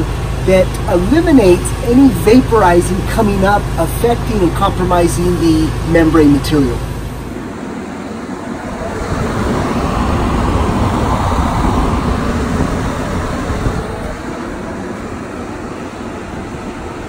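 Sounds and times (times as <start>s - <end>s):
air blowers rushing: 0.0s - 17.0s.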